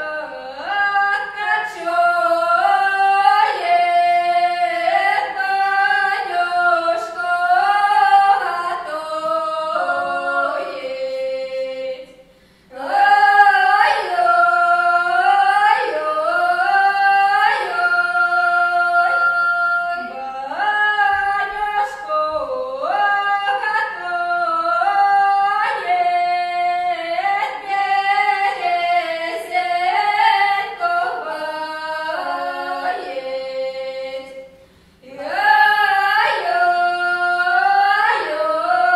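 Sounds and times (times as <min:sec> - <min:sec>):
women singing unaccompanied: 0:00.0 - 0:38.9.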